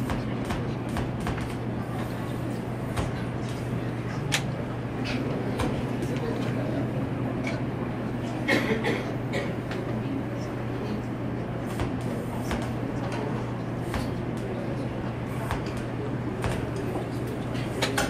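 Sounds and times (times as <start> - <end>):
murmur of onlookers: 0.0 - 18.0
steady low hum: 0.0 - 18.0.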